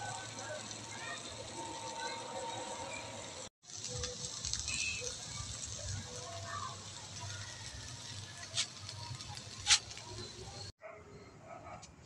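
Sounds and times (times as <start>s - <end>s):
eggs sizzling in a pan: 0.0s - 10.8s.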